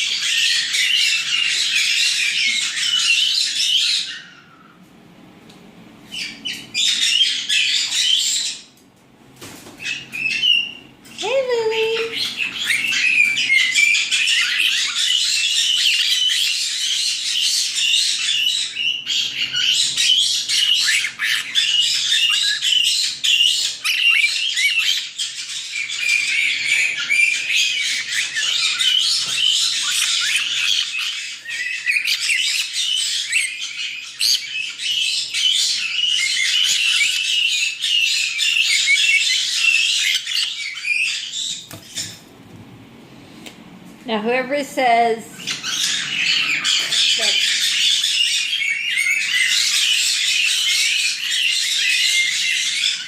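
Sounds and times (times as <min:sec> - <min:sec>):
parrots chattering: 0:00.0 - 0:04.8, 0:06.0 - 0:08.8, 0:09.8 - 0:42.4, 0:44.7 - 0:53.0.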